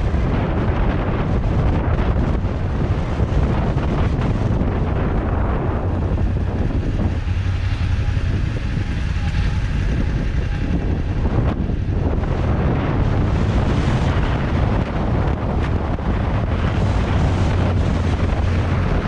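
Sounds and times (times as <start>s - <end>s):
motorcycle engine rumble: 0.0s - 19.0s
wind buffeting microphone: 0.0s - 19.0s.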